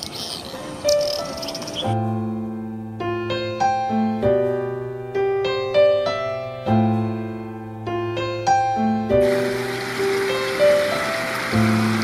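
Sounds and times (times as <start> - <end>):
slow piano tune: 0.5 - 12.0.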